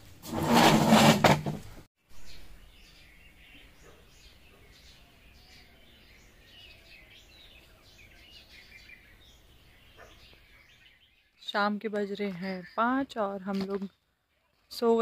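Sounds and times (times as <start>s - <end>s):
small birds chirping: 2.1s - 15.0s.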